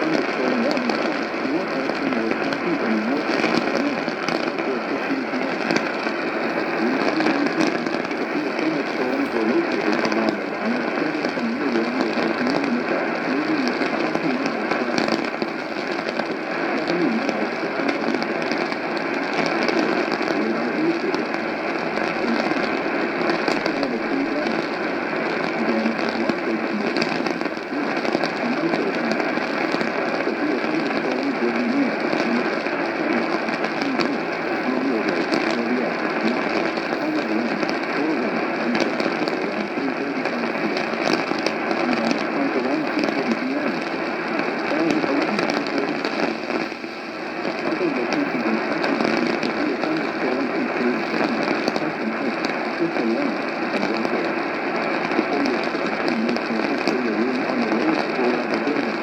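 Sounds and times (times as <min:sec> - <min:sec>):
faint voice through static: 0:00.0 - 0:59.0
radio crackles: 0:00.0 - 0:59.0
radio static hiss: 0:00.0 - 0:59.0.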